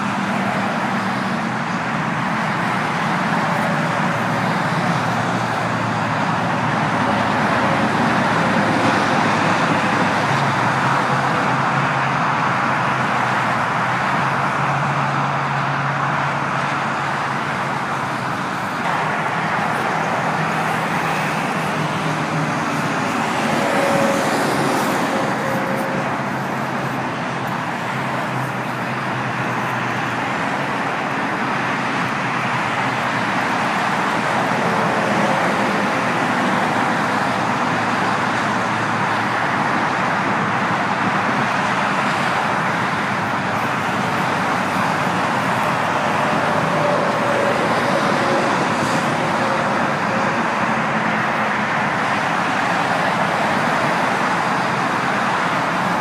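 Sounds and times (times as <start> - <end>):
highway traffic rushing: 0.0 - 56.0.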